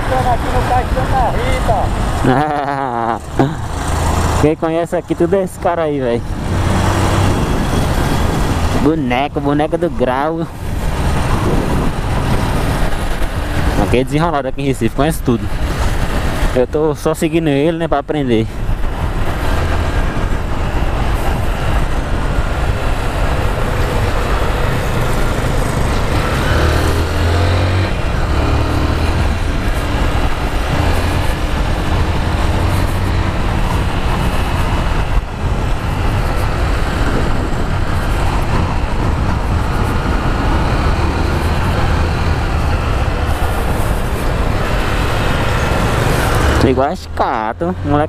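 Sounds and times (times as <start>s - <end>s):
wind rushing: 3.2s - 17.0s, 18.0s - 47.2s.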